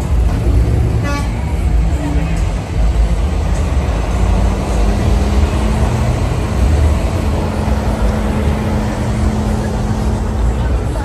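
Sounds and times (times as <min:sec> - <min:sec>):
heavy vehicles passing: 0:00.0 - 0:11.0
steady engine drone: 0:00.0 - 0:11.0.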